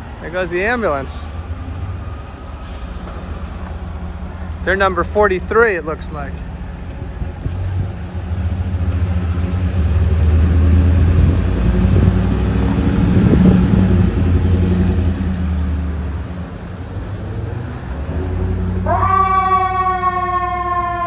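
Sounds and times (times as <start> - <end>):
heavy truck engine driving past: 0.0 - 21.0.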